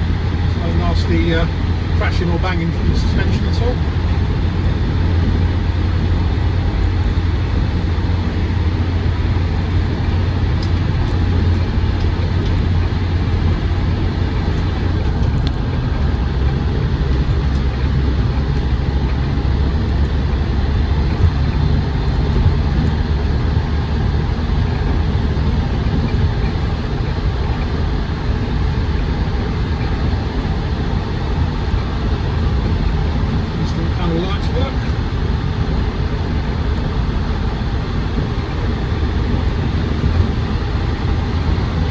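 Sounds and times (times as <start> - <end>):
diesel engine cabin drone: 0.0 - 41.9
road noise: 0.0 - 41.9.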